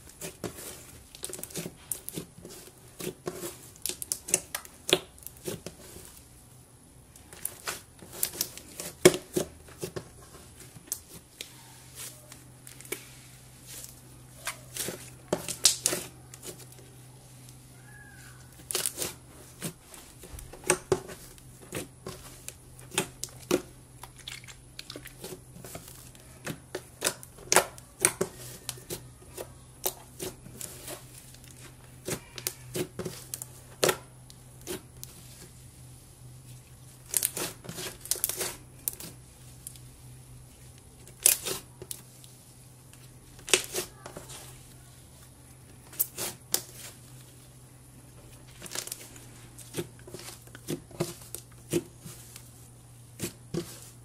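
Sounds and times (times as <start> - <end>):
hands kneading sticky slime: 0.0 - 54.0.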